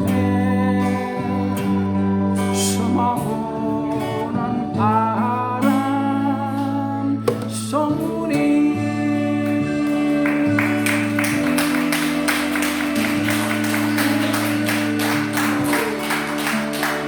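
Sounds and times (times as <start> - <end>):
instrumental music with chords: 0.0 - 17.0
moving bass line: 0.0 - 17.0.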